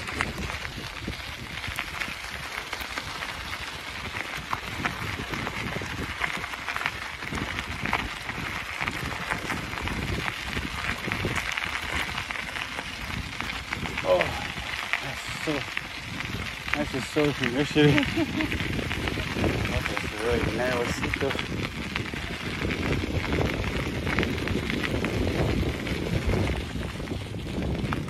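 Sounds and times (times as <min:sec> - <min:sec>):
bicycle crackling over road: 0:00.0 - 0:28.0
wind buffeting microphone: 0:00.0 - 0:28.0.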